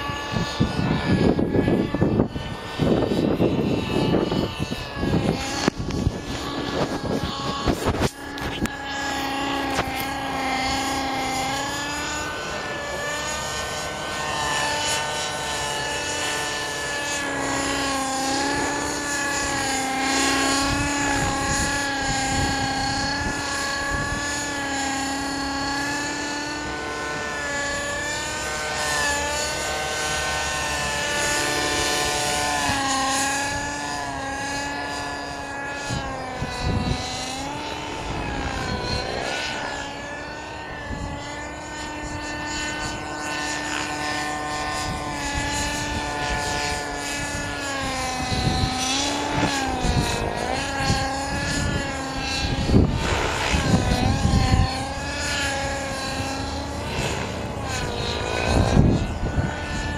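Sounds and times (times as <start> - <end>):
model helicopter engine buzzing: 0.0 - 59.9
wind rumbling on microphone: 0.0 - 59.9.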